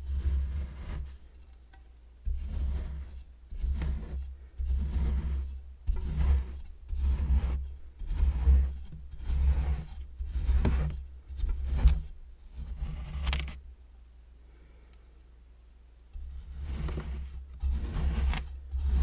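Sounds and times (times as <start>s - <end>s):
metal tool scraping through sand: 0.0s - 13.6s, 16.2s - 19.0s.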